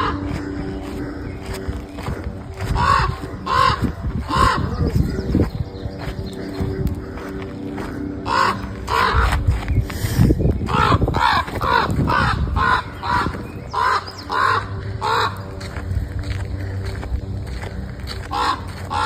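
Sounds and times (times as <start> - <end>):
crows cawing: 0.0 - 19.0.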